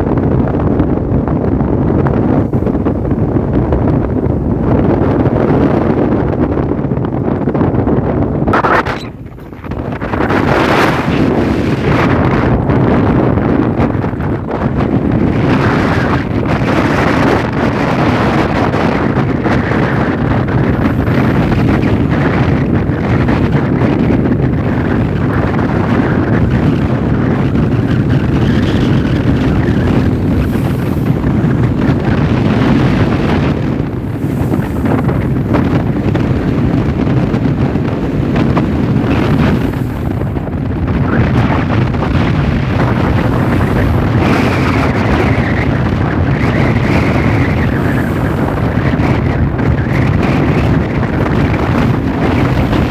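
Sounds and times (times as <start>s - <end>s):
boat engine rumble: 0.0s - 52.9s
wind buffeting microphone: 0.0s - 52.9s.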